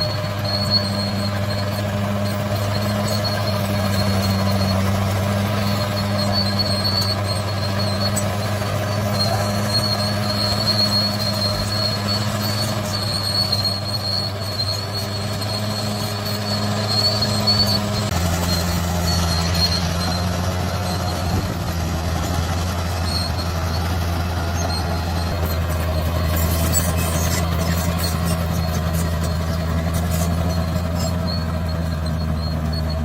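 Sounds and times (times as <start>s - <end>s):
bulldozer diesel engine running: 0.0s - 33.0s
high squeal: 0.0s - 33.0s.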